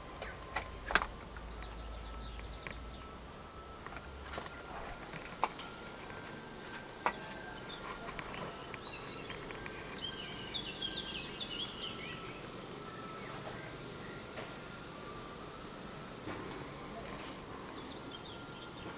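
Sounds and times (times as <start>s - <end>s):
outdoor background hiss: 0.0s - 18.9s.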